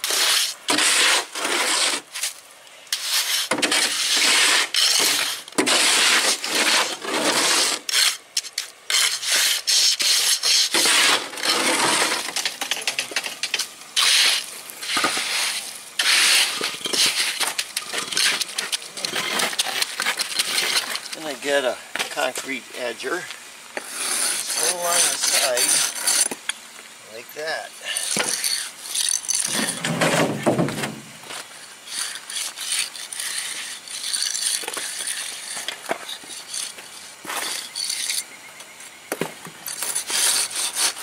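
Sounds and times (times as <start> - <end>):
shovel scraping wet concrete: 0.0 - 26.5, 27.4 - 38.3, 39.6 - 41.0
trowel smoothing concrete: 0.0 - 26.6, 27.4 - 38.3, 39.6 - 41.0.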